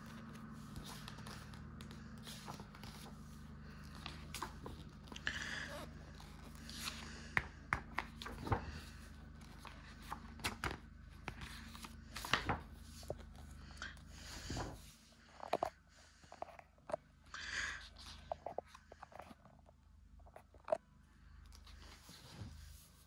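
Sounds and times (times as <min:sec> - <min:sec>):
book pages turning: 0:00.0 - 0:17.1, 0:17.8 - 0:19.5
steady low hum: 0:00.0 - 0:23.0.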